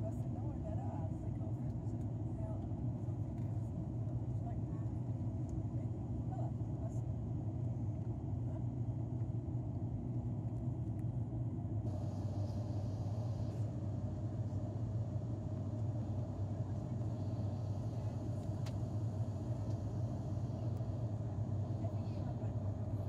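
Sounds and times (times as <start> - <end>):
propeller plane cabin drone: 0.0 - 23.0.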